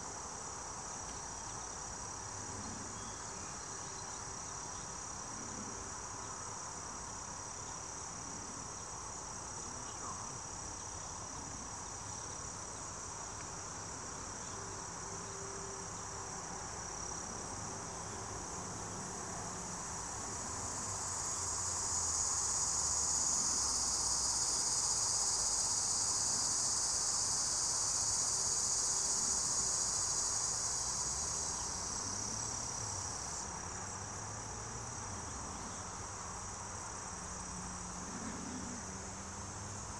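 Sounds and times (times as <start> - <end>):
insect buzzing: 0.0 - 39.9
insects trilling: 0.0 - 39.9.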